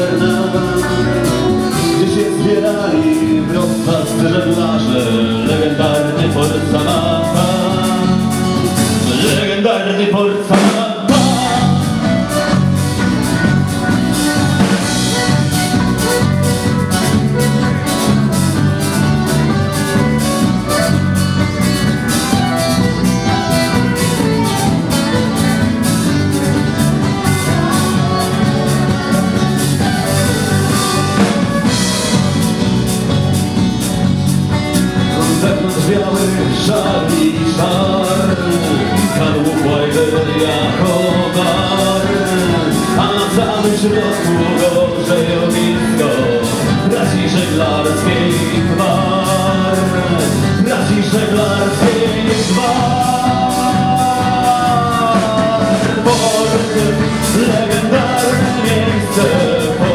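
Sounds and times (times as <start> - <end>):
folk band playing: 0.0 - 59.9.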